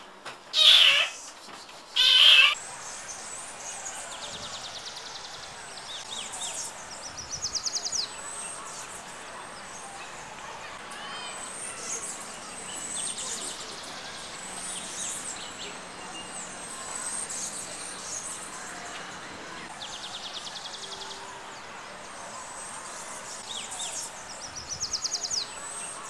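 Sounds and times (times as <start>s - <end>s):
birds chirping and trilling: 0.6s - 1.3s, 2.0s - 26.0s.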